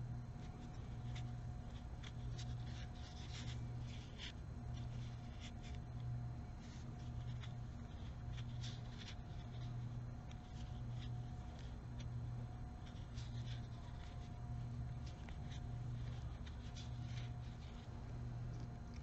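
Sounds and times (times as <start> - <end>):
crochet hook scratching yarn: 0.3 - 19.0.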